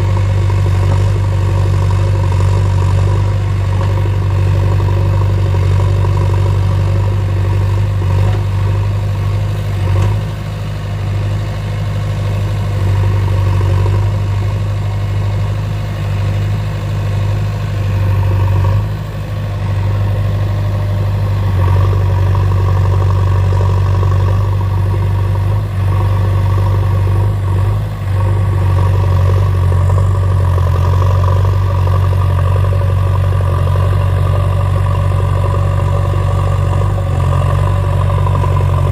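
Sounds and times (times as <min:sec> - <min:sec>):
backhoe diesel engine working: 0:00.0 - 0:38.9.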